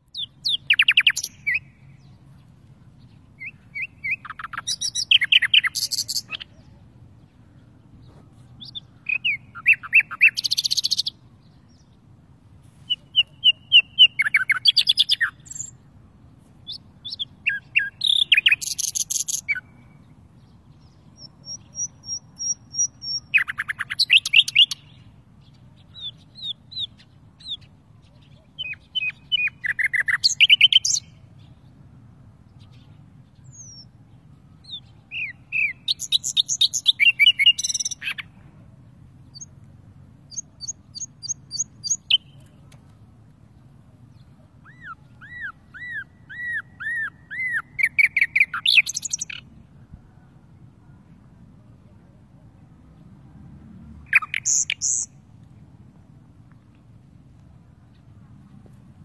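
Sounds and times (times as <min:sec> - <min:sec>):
songbird trilling and twittering: 0:00.0 - 0:12.2, 0:12.8 - 0:31.8, 0:32.5 - 0:39.6, 0:40.2 - 0:50.3, 0:54.0 - 0:55.2.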